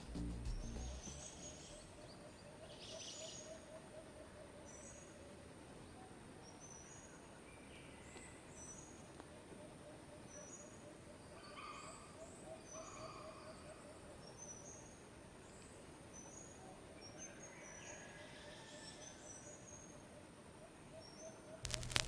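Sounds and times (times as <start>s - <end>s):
quiet rural ambience: 0.0s - 22.0s.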